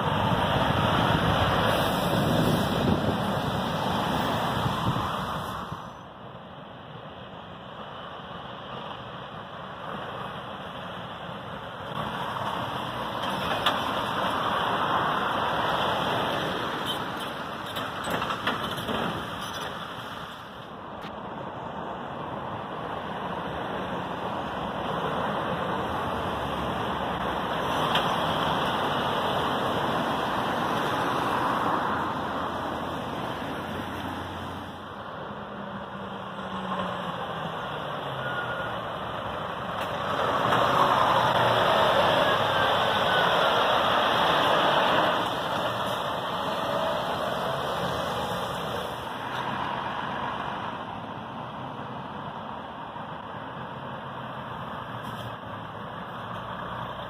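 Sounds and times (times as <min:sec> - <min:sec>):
lorry diesel engines: 0:00.0 - 0:57.0
tyres on the road: 0:00.0 - 0:57.0.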